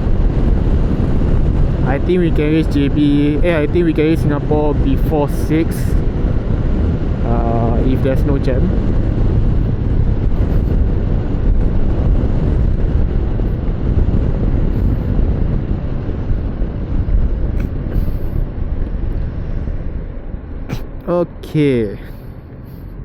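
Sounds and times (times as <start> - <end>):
road noise: 0.0 - 23.0
wind rushing on microphone: 0.0 - 23.0.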